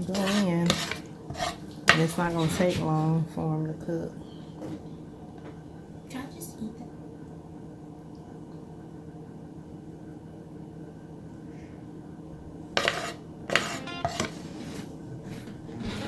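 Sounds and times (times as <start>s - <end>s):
low kitchen hum: 0.0s - 16.0s.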